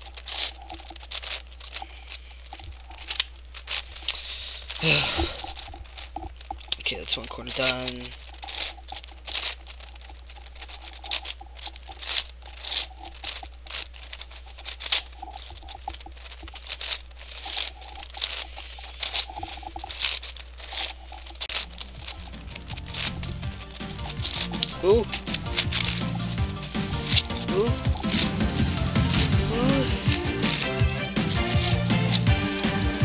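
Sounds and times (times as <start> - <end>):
puzzle cube clicks and scraping: 0.0 - 33.0
steady low hum: 0.0 - 33.0.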